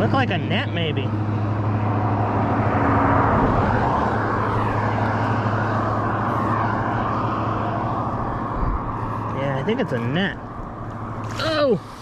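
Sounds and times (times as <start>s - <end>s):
engine-like drone: 0.0s - 12.0s.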